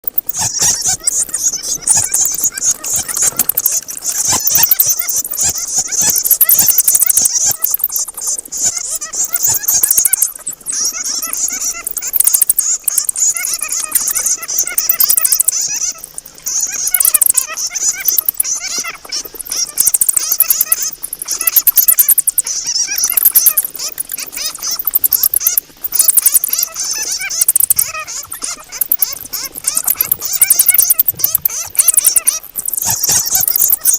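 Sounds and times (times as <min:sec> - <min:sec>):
bats squeaking and chattering: 0:00.0 - 0:33.9
sharp clicks: 0:00.0 - 0:33.9.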